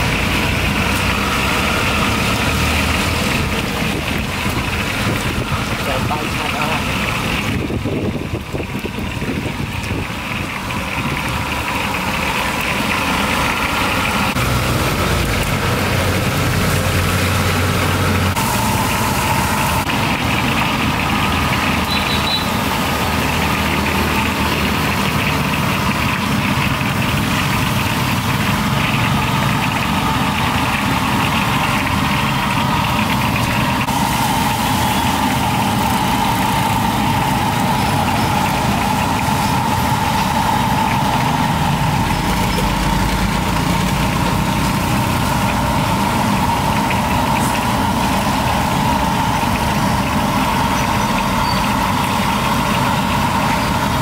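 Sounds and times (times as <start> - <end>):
engines droning: 0.0 - 54.0.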